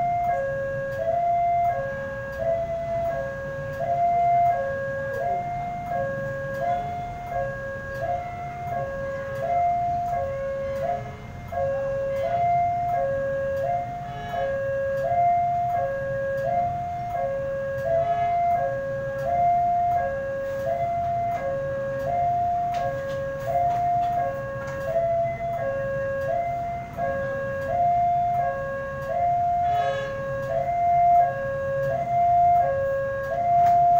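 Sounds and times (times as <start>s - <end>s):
low rumble of traffic: 0.0s - 33.9s
two-tone crossing alarm chime: 0.0s - 33.9s.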